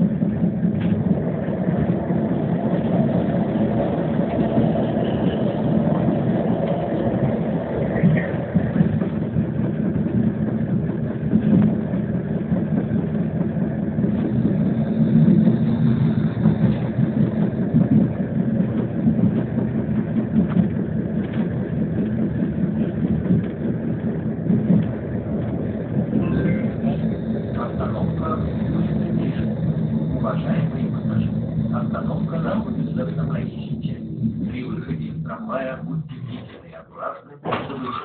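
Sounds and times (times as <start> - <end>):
tram rumbling on rails: 0.0 - 38.0.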